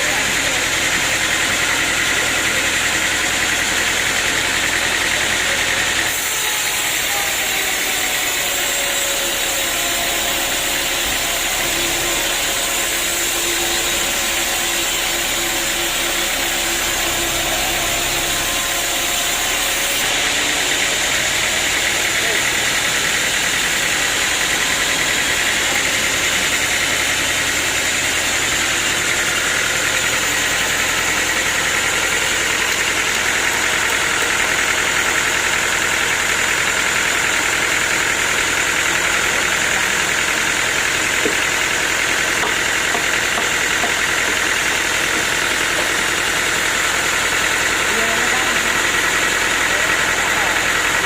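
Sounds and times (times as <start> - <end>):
sawmill machinery drone: 0.0 - 51.0.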